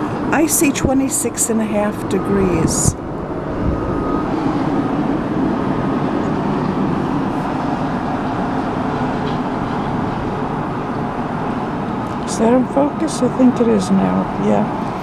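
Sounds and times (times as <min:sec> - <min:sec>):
wind blowing across microphone: 0:00.0 - 0:13.5.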